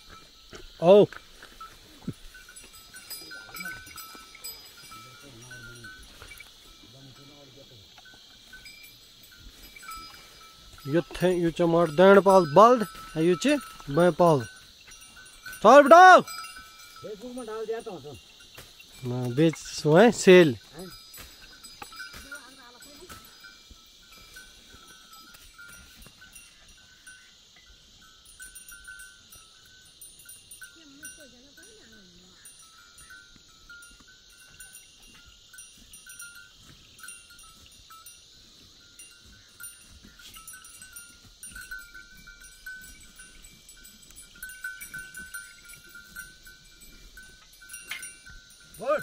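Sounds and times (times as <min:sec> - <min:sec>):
animal bells clinking: 0:00.0 - 0:49.0.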